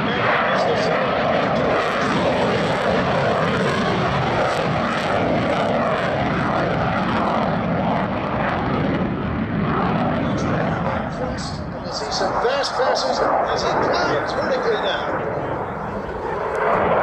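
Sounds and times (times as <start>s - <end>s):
jet engines with afterburners roaring: 0.0s - 17.0s.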